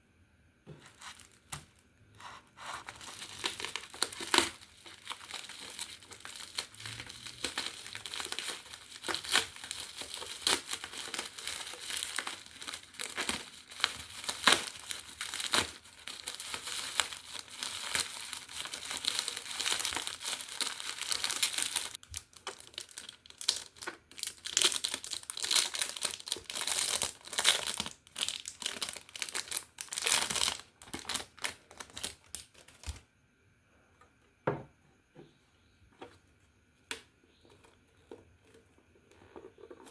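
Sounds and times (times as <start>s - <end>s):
packaging crinkling and tearing: 0.9s - 33.0s.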